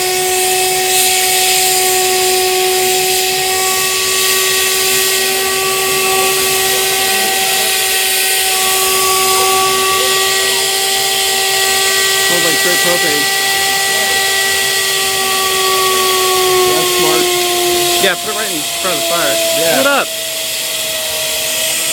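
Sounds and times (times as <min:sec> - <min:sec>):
jet engine high-pitched whine: 0:00.0 - 0:21.9.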